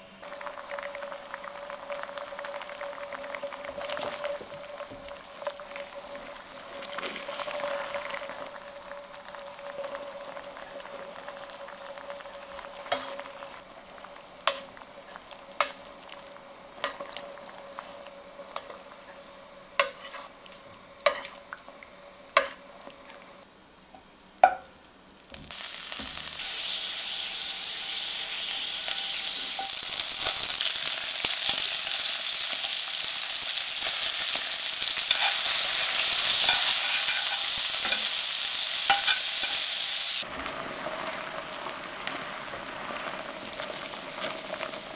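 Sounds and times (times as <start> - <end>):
vegetables sizzling in pan: 0.0 - 44.9.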